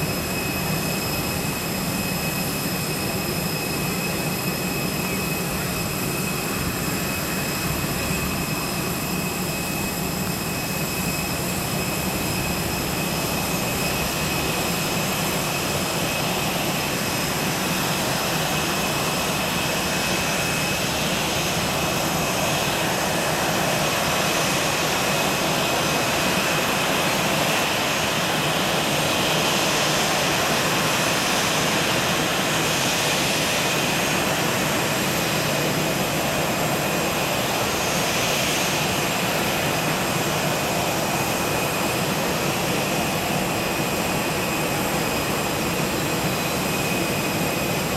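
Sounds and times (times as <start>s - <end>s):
jet turbine hiss and whine: 0.0s - 47.9s.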